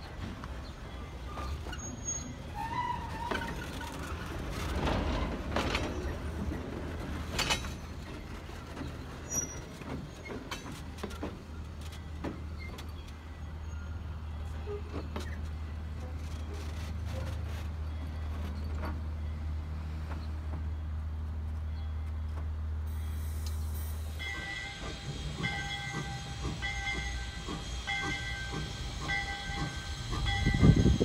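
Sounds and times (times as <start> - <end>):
train coaches rumbling on rails: 0.0 - 31.0.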